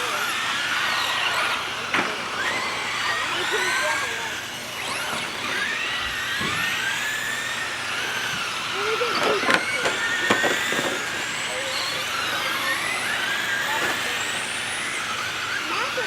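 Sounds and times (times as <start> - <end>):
toy car motors whining: 0.0 - 16.0.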